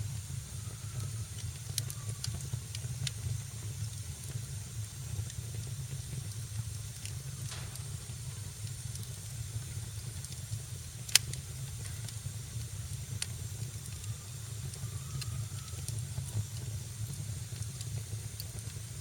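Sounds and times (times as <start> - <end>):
low rumble and hiss: 0.0 - 19.0
wood fire crackling: 0.0 - 19.0
fire pops: 0.6 - 19.0.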